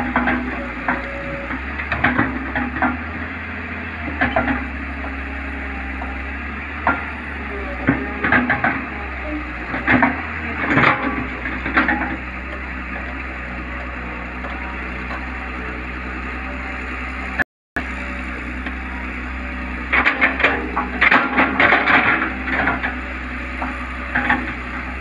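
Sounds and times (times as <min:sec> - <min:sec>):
excavator diesel engine: 0:00.0 - 0:25.0.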